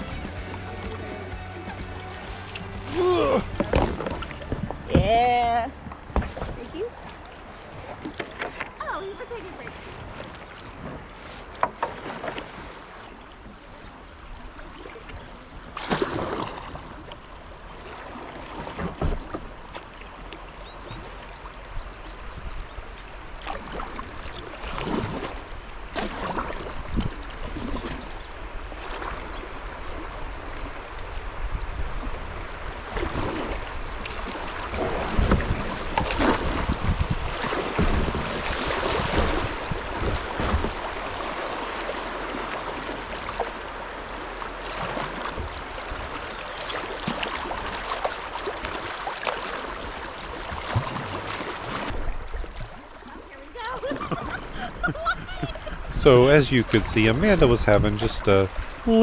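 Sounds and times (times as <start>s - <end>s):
paddle splashing in water: 0.0s - 59.0s
running river water: 0.0s - 59.0s.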